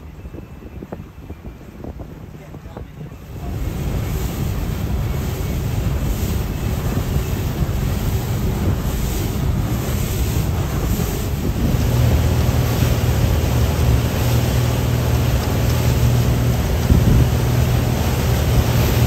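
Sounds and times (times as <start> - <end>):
outboard engine hum: 0.0 - 19.0
water rushing past hull: 0.0 - 19.0
wind buffeting microphone: 0.0 - 19.0.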